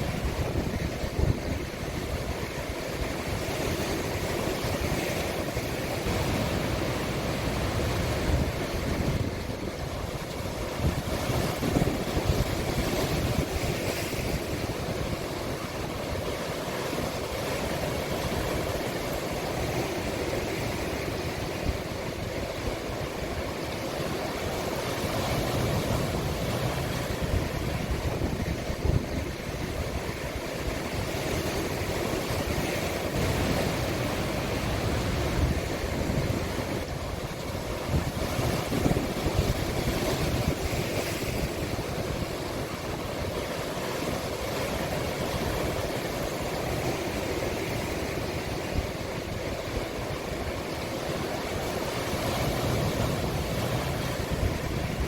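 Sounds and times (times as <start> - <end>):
waves breaking on shore: 0.0 - 55.0
wind on microphone: 0.0 - 55.0.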